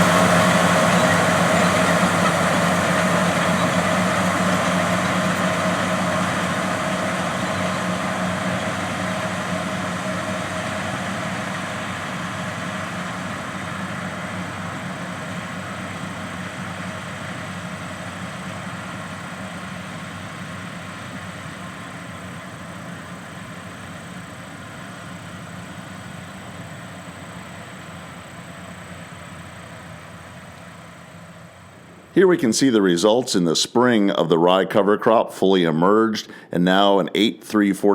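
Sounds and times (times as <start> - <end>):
tractor diesel engine running: 0.0 - 37.8.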